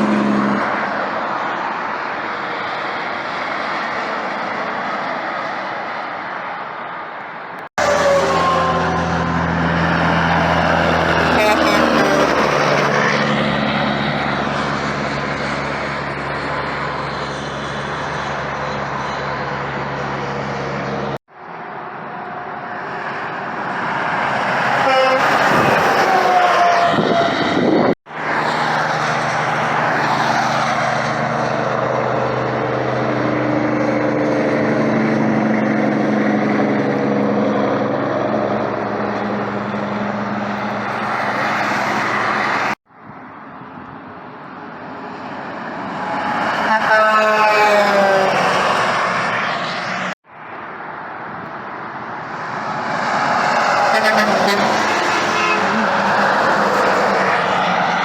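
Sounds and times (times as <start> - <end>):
heavy vehicles passing close: 0.0 - 58.0.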